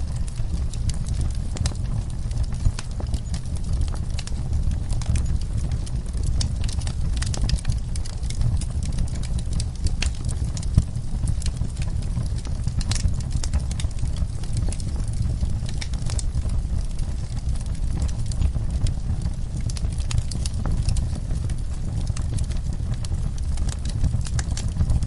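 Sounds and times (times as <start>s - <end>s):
steady low rumble: 0.0s - 25.0s
wood fire crackling and popping: 0.0s - 25.0s.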